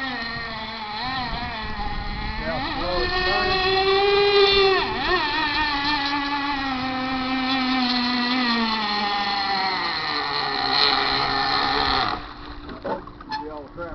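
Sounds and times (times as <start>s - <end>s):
model boat engine high whine: 0.0s - 13.9s.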